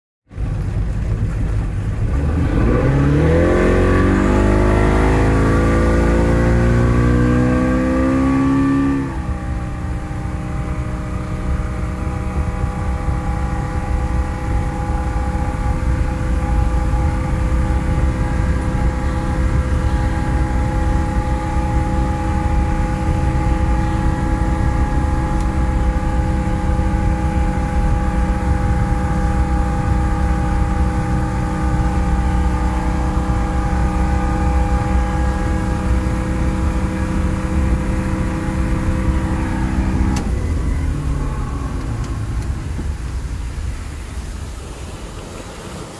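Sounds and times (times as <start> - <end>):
wind and water rumble: 0.3 - 45.9
outboard motor revving: 0.4 - 45.9.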